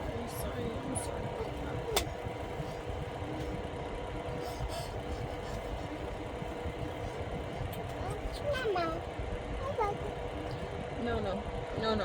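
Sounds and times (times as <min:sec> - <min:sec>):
faint steady hum: 0:00.0 - 0:12.0
low mechanical rumble: 0:00.0 - 0:12.0.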